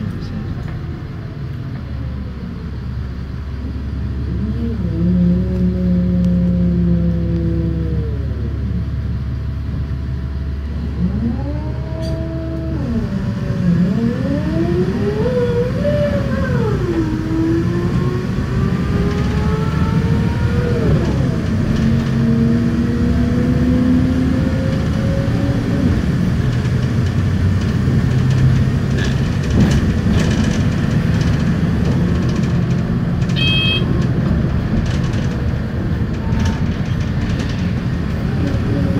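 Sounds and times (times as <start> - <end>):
vehicle interior rumble: 0.0 - 38.9.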